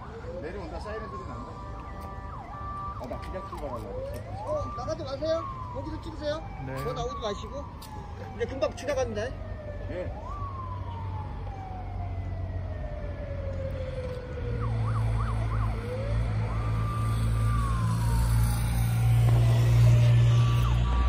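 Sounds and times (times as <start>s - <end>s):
police sirens wailing and yelping: 0.0s - 21.0s.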